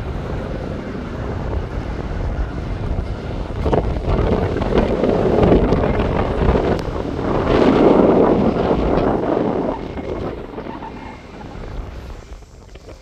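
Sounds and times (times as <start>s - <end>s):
jet aircraft rumble: 0.0s - 13.0s
wind buffeting microphone: 0.0s - 13.0s.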